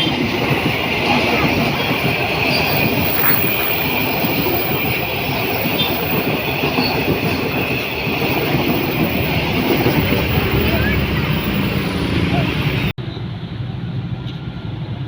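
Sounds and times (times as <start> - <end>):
train wheels on rails: 0.0 - 12.9.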